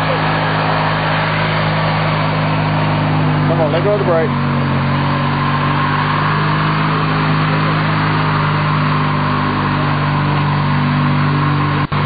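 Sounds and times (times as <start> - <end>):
high whine: 0.0 - 12.0
riding lawnmower engine running: 0.0 - 12.0.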